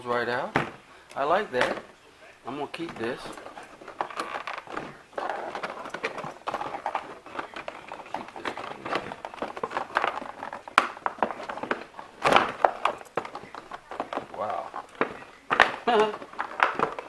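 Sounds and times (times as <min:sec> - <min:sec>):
plastic packaging handled: 0:00.0 - 0:17.0.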